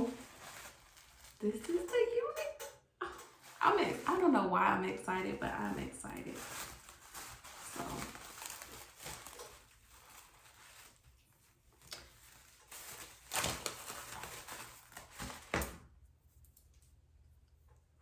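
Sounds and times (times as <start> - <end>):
rustling and handling noise: 0.0 - 18.0.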